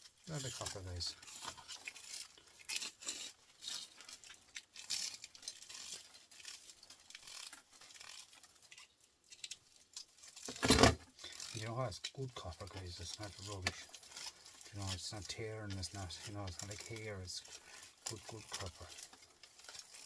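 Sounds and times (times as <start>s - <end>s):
wire scratchy rustles: 0.0s - 20.0s.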